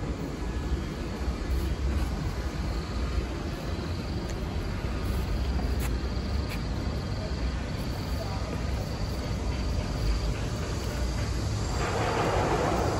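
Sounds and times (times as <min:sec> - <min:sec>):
faint high insect drone: 0:00.0 - 0:12.9.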